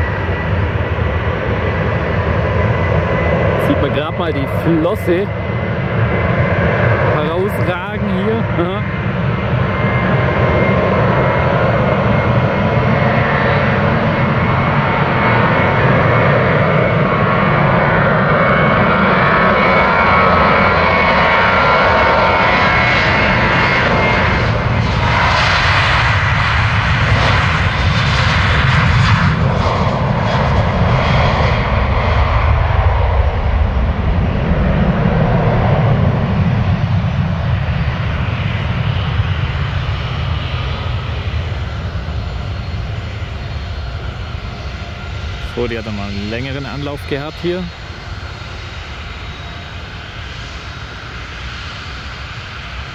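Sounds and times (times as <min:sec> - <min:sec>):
jet plane taking off: 0:00.0 - 0:52.9.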